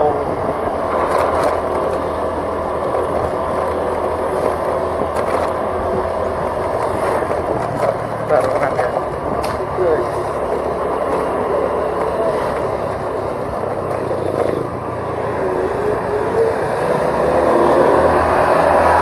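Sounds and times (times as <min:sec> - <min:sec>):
road noise: 0:00.0 - 0:19.0
vehicle engine: 0:00.0 - 0:19.0
wind noise: 0:00.0 - 0:19.0.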